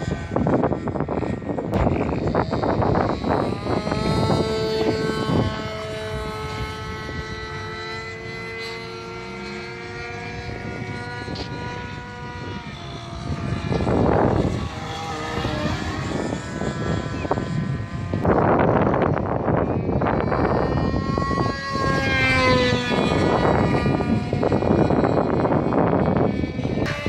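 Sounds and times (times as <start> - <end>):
model airplane engine buzzing: 0.0 - 27.0.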